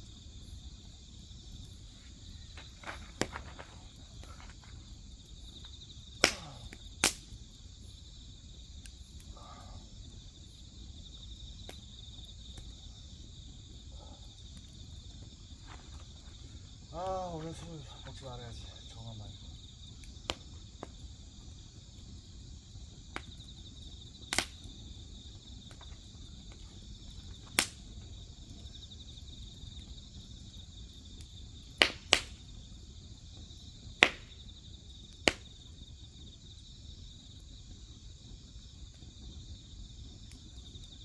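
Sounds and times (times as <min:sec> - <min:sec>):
crickets chirring: 0:00.0 - 0:41.0
wood fire crackling and popping: 0:00.0 - 0:41.0.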